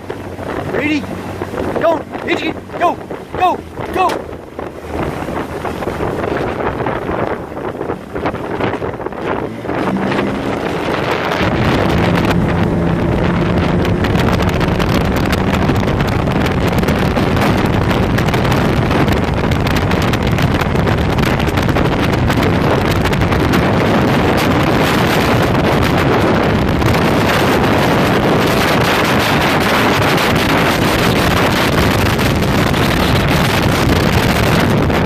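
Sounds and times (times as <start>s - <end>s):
motorboat engine running: 0.0s - 35.0s
wind buffeting microphone: 0.0s - 35.0s.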